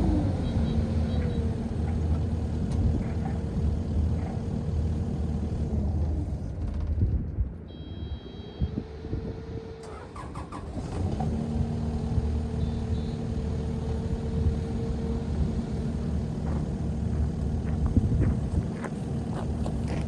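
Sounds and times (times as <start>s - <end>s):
excavator diesel engine running: 0.0s - 7.0s, 7.7s - 20.0s.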